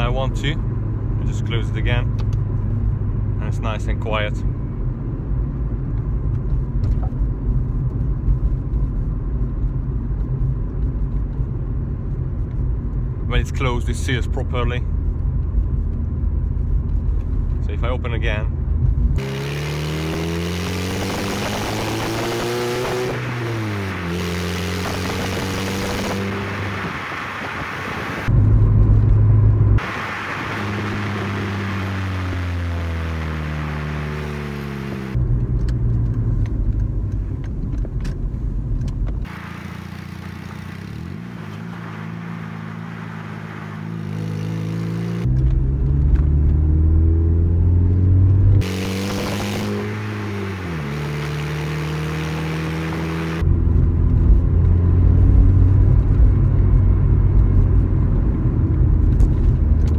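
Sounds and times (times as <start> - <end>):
car exhaust while driving: 0.0 - 59.9.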